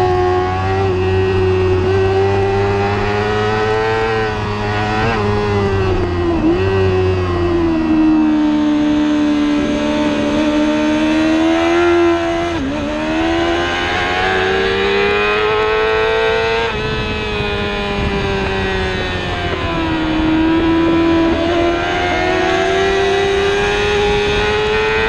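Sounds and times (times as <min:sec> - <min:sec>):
race motorcycle engine high revs: 0:00.0 - 0:25.0.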